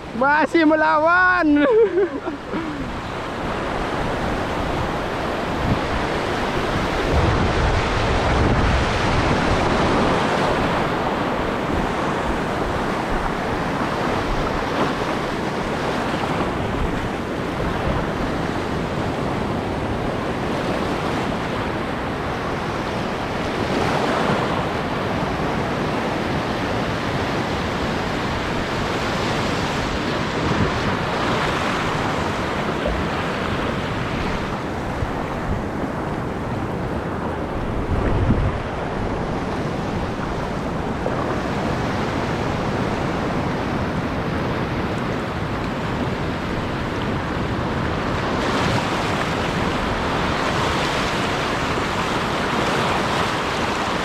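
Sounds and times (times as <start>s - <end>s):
surf washing over reef: 0.0s - 54.0s
wind buffeting microphone: 1.8s - 54.0s.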